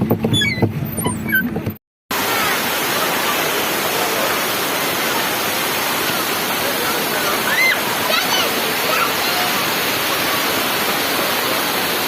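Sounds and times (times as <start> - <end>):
waterfall roaring: 2.1 - 12.0.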